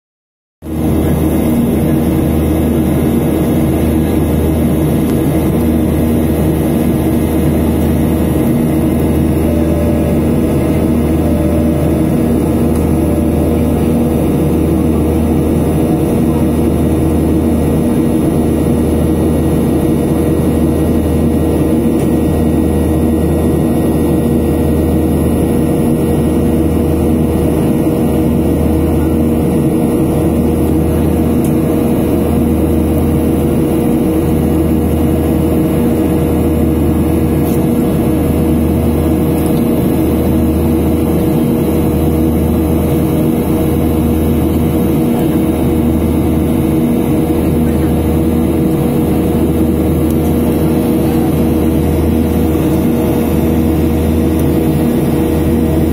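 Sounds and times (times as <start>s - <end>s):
airliner cabin engine drone: 0.6s - 55.9s
constant hum: 0.7s - 55.9s.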